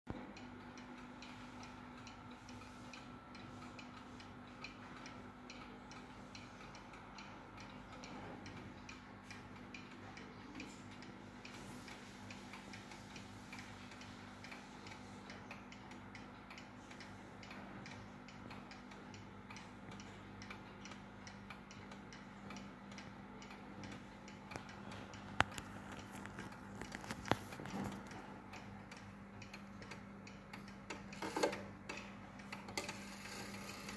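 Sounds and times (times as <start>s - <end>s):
faint steady hum: 0.1s - 33.9s
pendulum wall clock ticking: 0.1s - 33.9s.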